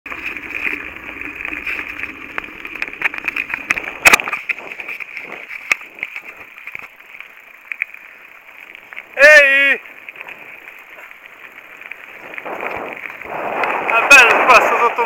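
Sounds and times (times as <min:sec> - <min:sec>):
bike rattles and clicks: 0:00.1 - 0:15.0
bike tyres crunching on gravel: 0:00.1 - 0:15.0.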